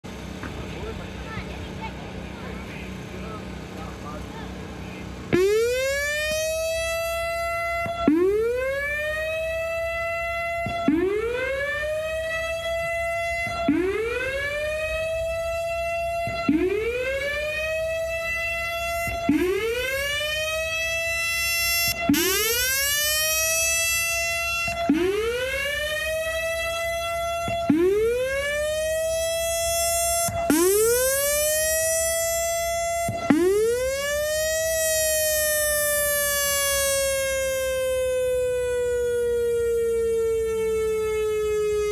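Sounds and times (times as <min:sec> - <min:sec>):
warning siren whooping: 0:05.3 - 0:41.9.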